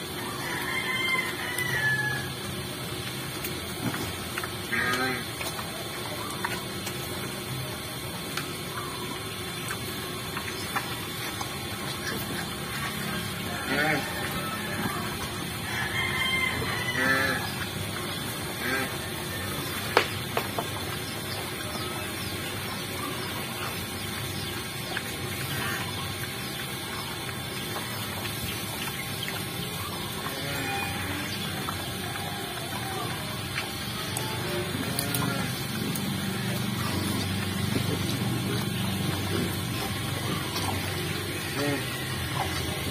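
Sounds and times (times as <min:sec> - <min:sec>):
pigs chewing and slurping: 0:00.0 - 0:42.9.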